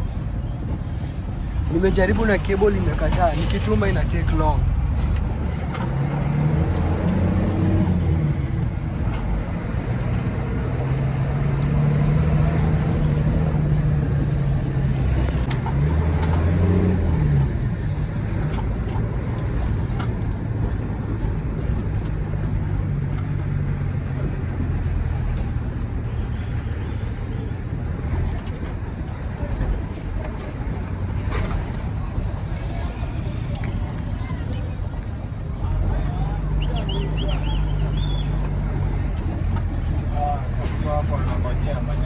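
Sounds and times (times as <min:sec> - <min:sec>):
road noise: 0:00.0 - 0:42.0
truck engine running: 0:00.0 - 0:42.0.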